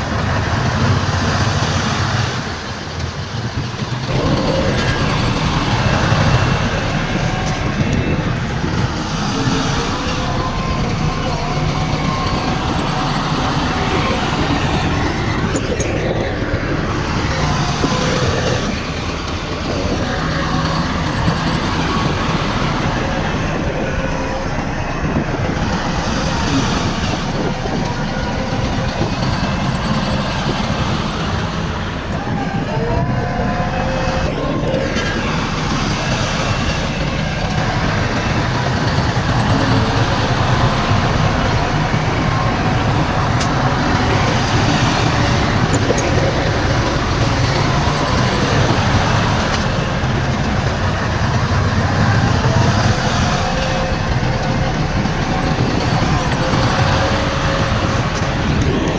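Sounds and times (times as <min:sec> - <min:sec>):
heavy diesel machinery engines: 0:00.0 - 0:58.9.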